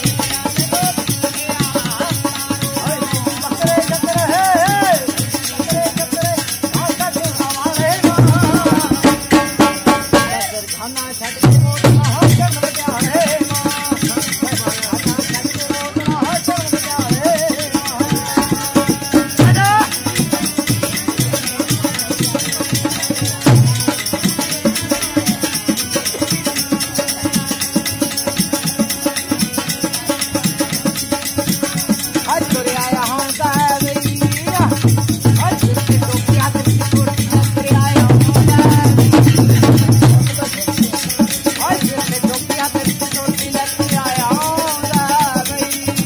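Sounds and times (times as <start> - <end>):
jingling percussion: 0.0 - 46.0.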